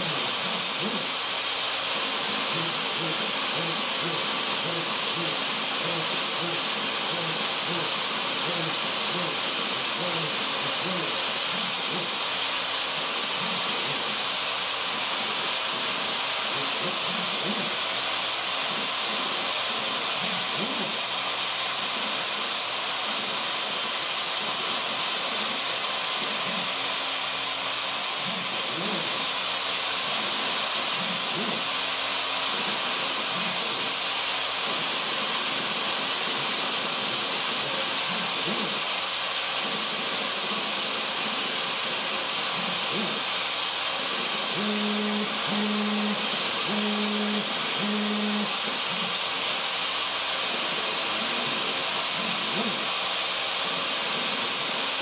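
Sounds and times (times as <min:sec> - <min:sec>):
router high-pitched whine: 0:00.0 - 0:55.0.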